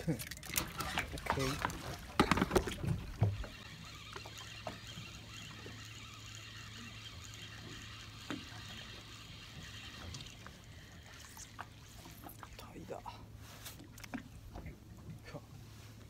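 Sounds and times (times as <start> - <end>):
faint water noise: 0.0 - 16.0.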